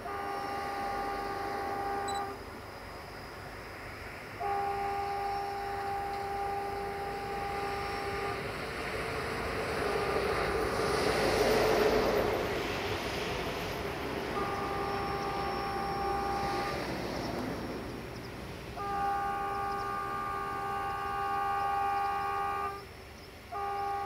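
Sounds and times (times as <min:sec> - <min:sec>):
train horn blasts: 0:00.0 - 0:02.5, 0:04.4 - 0:24.0
train running noise: 0:00.0 - 0:24.0.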